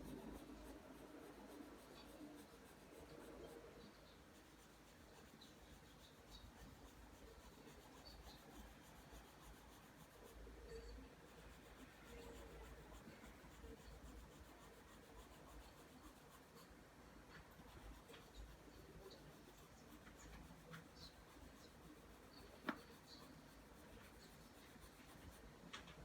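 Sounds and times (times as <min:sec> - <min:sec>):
pencil rubbing on paper: 0:00.0 - 0:26.0.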